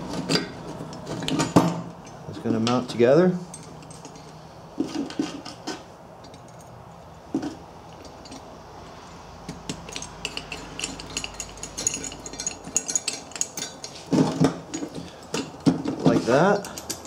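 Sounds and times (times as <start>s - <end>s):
metal hardware clinking: 0.1s - 6.8s, 7.4s - 8.5s, 9.4s - 17.0s.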